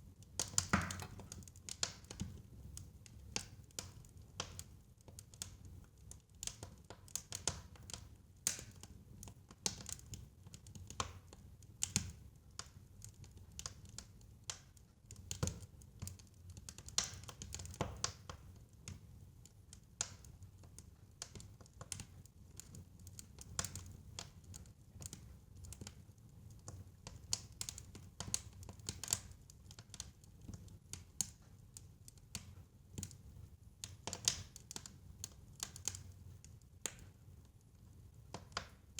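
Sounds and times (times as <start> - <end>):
fire crackling and popping: 0.1 - 38.9.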